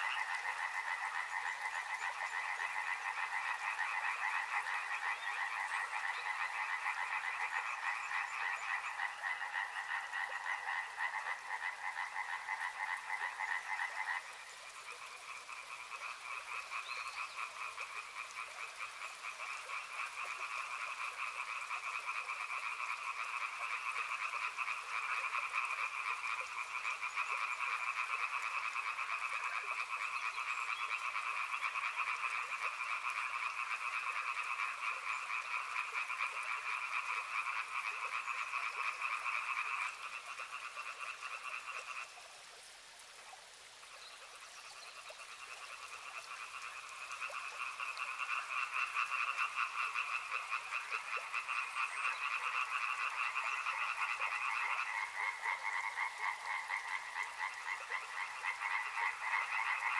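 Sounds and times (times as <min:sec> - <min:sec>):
frogs calling in chorus: 0:00.0 - 0:42.2, 0:44.2 - 0:59.9.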